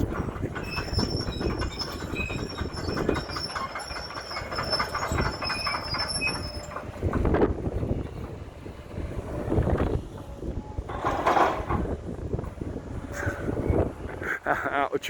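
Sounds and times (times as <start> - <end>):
tram wheel squeal: 0.0 - 14.1
tram clattering over track: 0.0 - 15.0.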